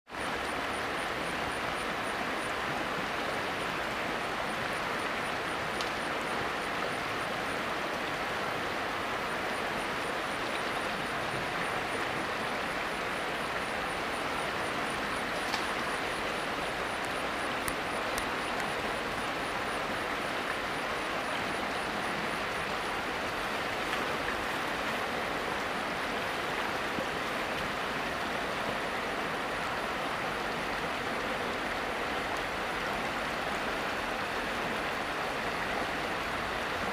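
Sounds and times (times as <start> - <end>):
river flowing: 0.1 - 36.9.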